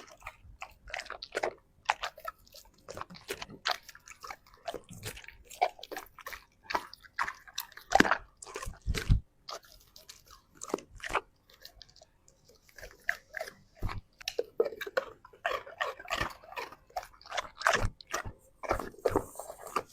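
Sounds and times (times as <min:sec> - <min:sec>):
dog chewing and crunching food: 0:00.0 - 0:19.9.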